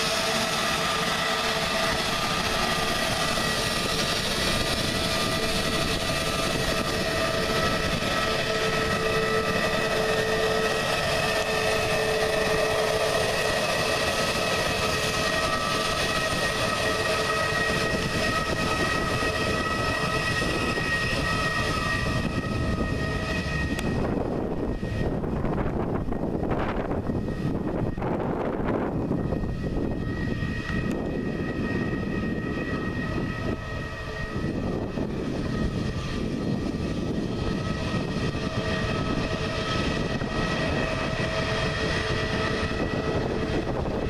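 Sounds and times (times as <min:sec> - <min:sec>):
jet engines whining: 0:00.0 - 0:44.0
low wind rumble on microphone: 0:00.0 - 0:44.0.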